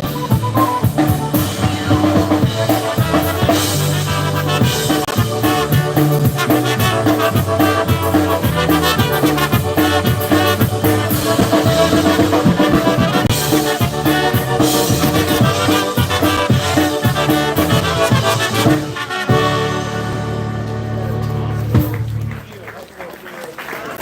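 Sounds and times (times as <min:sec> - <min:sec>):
polka band with brass horns: 0:00.0 - 0:22.9.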